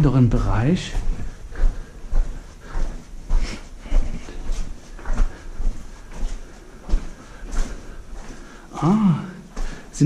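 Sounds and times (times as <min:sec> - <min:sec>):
footsteps on tunnel floor: 0:00.0 - 0:10.0.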